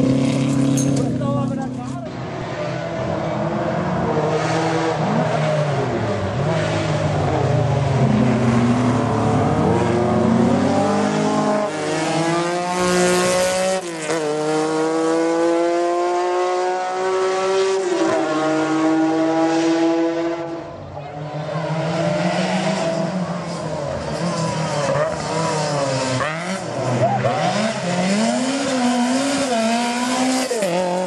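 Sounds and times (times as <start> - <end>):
rally car engines revving hard: 0.0 - 31.0.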